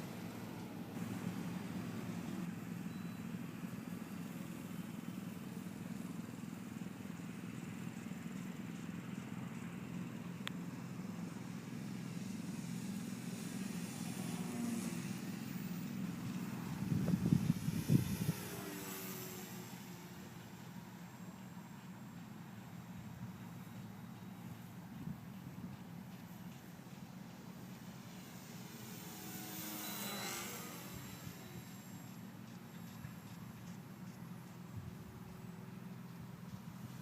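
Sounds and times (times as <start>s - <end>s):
model plane propeller droning: 0.0s - 37.0s.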